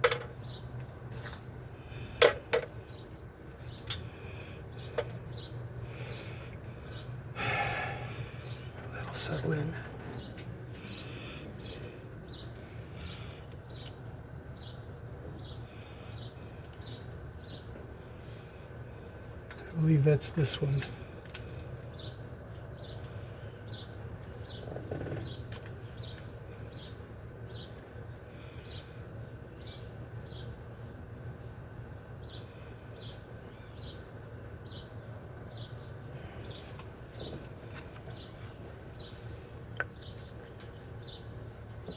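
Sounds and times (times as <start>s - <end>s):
steady low hum: 0.0s - 41.9s
bird chirping: 0.3s - 2.0s, 2.8s - 18.1s, 19.6s - 31.0s, 32.2s - 41.9s.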